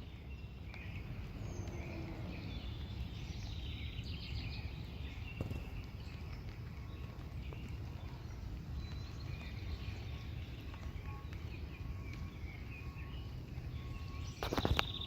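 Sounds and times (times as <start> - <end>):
bird chirps: 0.1 - 15.0.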